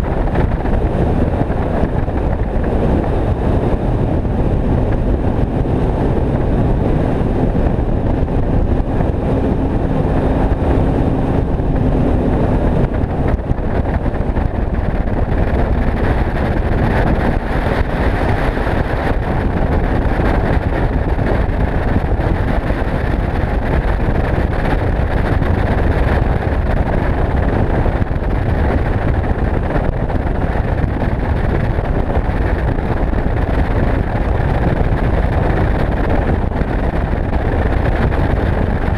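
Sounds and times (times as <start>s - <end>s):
outboard engine droning: 0.0s - 38.9s
wind rushing on microphone: 0.0s - 38.9s.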